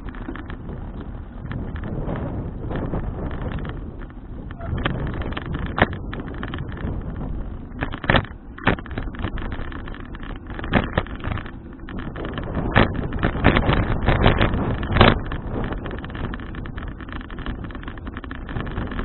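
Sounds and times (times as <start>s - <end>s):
bike rattling over bumps: 0.0s - 19.0s
wind rushing over microphone: 0.0s - 19.0s.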